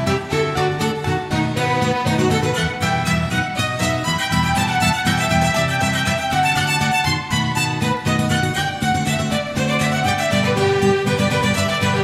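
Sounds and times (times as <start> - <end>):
violin melody: 0.0 - 12.0.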